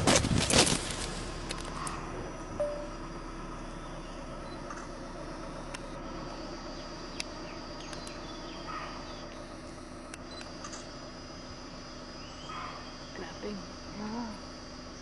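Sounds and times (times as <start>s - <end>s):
faint low hum: 0.2s - 15.0s.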